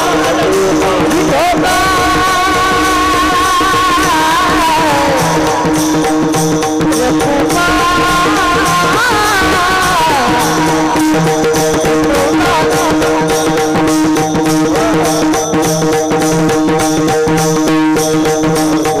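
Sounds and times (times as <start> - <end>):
steady drone: 0.0 - 17.3
hand drum strokes: 0.0 - 19.0
person singing devotional song: 0.0 - 19.0.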